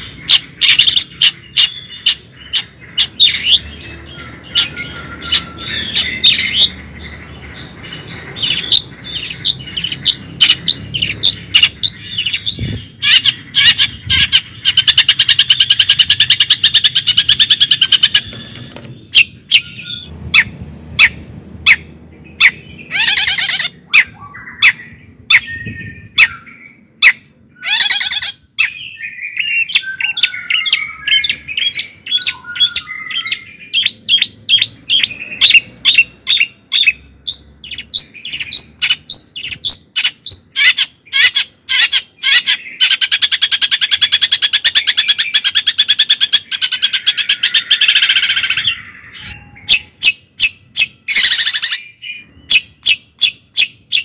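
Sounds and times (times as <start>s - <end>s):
bird chirping: 0.0s - 54.0s
bird harsh squawks: 7.6s - 21.8s, 22.4s - 25.6s, 26.2s - 54.0s.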